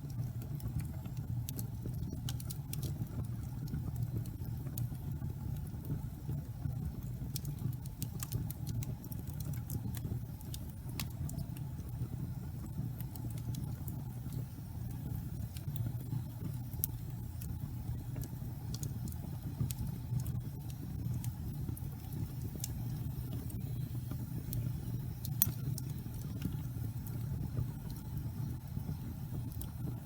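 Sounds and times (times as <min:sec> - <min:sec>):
fire flames rumbling: 0:00.0 - 0:30.0
logs crackling and popping: 0:00.0 - 0:30.0.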